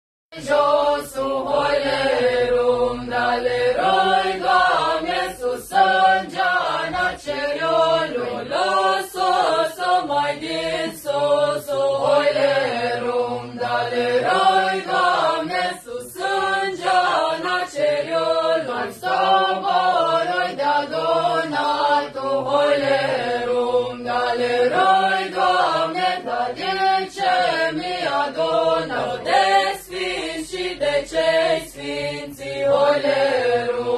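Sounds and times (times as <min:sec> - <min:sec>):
group singing a carol: 0:00.3 - 0:33.9.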